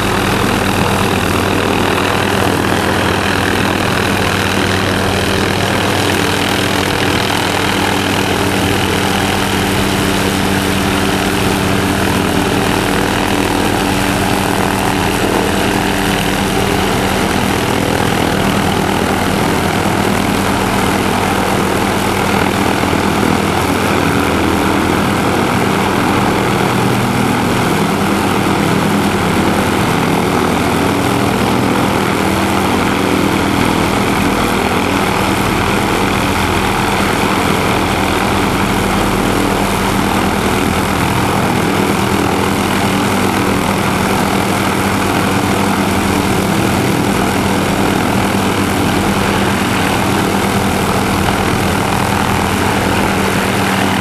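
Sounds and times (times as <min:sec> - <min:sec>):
helicopter hovering: 0:00.0 - 0:54.0.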